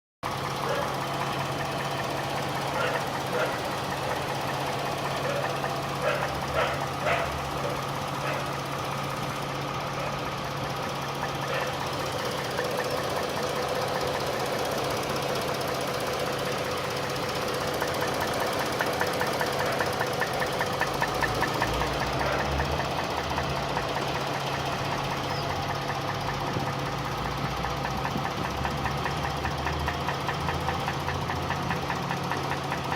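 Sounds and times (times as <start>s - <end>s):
engine drone: 0.3s - 32.9s
fast regular engine knock: 0.3s - 32.9s.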